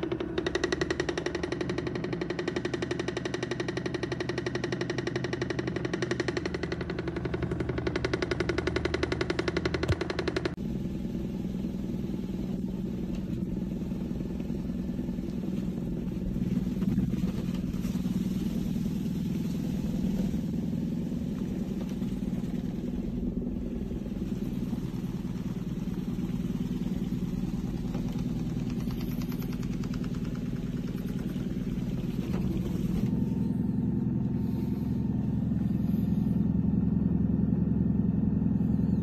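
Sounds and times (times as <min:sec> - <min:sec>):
vibration plate motor hum: 0:00.0 - 0:39.0.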